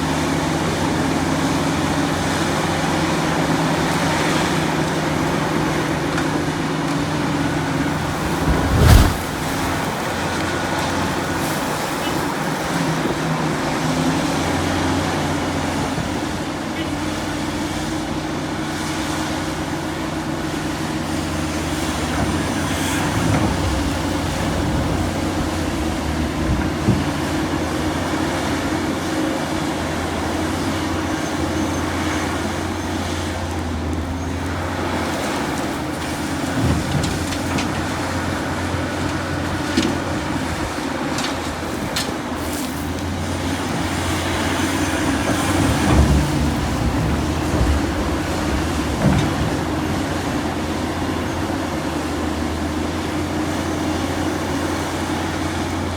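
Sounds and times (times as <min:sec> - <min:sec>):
excavator diesel engine drone: 0:00.0 - 0:55.9.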